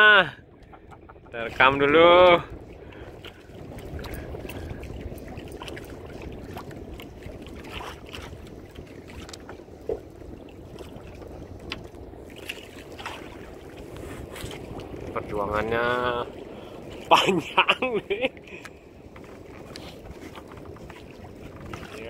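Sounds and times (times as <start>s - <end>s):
water around a boat: 0.0s - 22.0s
wind: 0.0s - 22.0s.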